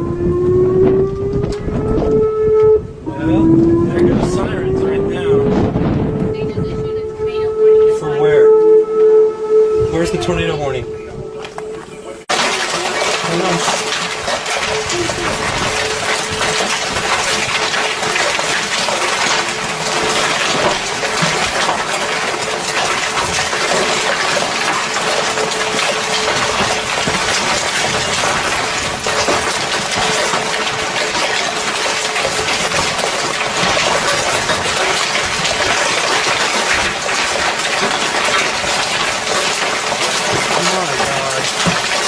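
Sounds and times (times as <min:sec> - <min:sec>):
hail and heavy rain pelting: 0:03.0 - 0:07.4, 0:09.9 - 0:42.0.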